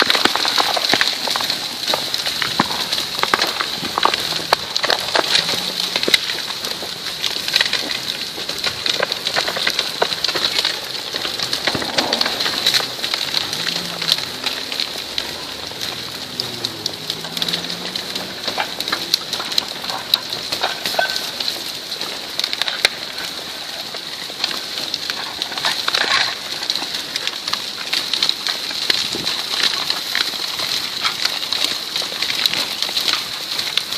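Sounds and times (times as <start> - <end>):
earth and rock sliding: 0.0 - 33.9.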